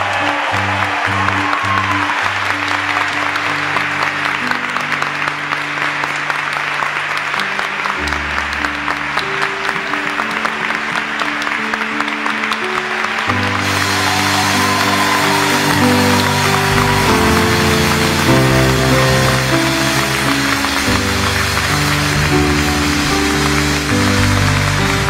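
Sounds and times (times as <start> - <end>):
crowd applauding: 0.0 - 25.0
instrumental music with held notes: 0.7 - 25.0.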